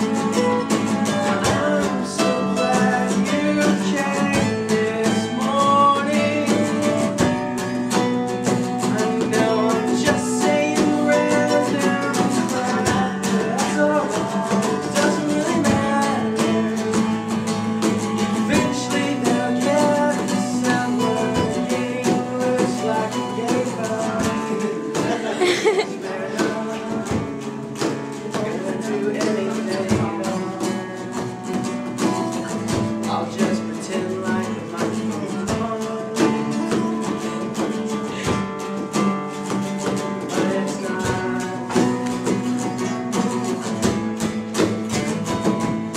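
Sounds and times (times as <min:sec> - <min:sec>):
acoustic guitar strumming: 0:00.0 - 0:45.9
man singing: 0:00.0 - 0:45.9.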